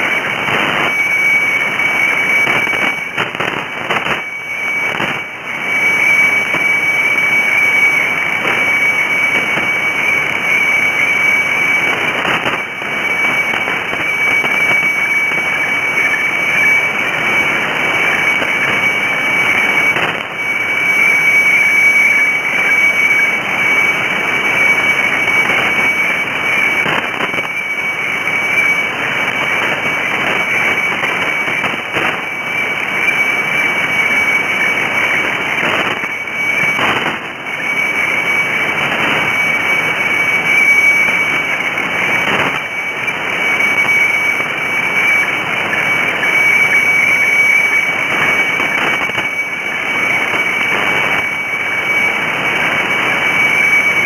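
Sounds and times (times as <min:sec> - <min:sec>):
steady high radio tone: 0:00.0 - 0:54.0.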